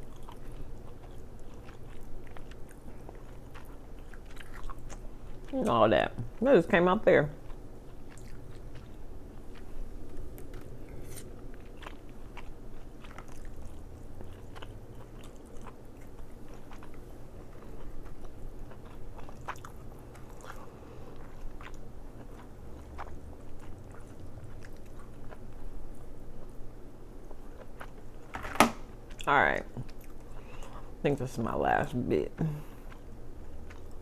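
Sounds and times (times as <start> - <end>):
person chewing: 0.0 - 6.4, 7.4 - 28.3, 28.9 - 31.0, 32.5 - 34.0.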